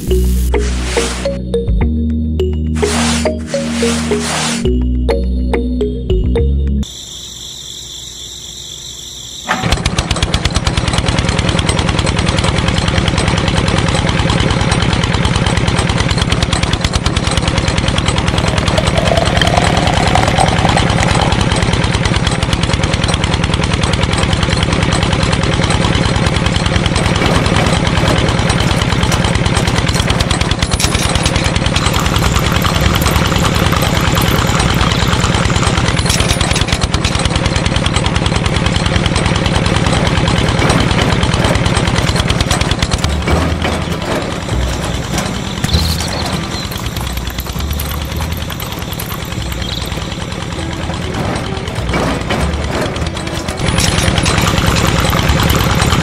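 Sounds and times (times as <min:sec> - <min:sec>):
small motor clattering: 0:09.5 - 0:56.0.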